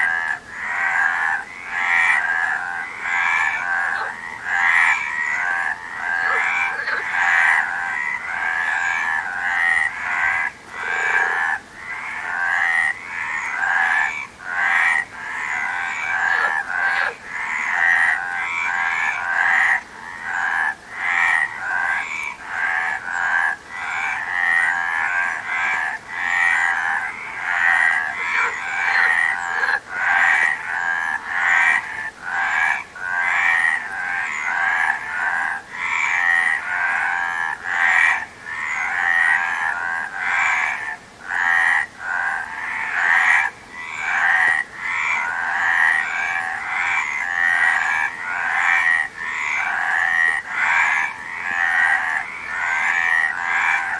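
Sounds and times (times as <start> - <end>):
frogs croaking: 0.0 - 53.9.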